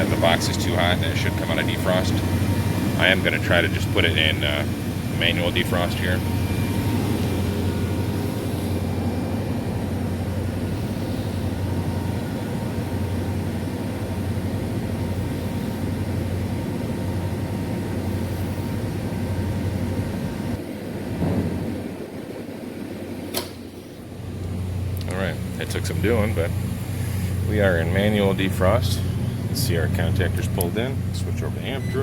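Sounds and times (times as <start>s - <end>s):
compressor hum: 0.0s - 32.0s
condenser fan airy rush: 0.0s - 32.0s.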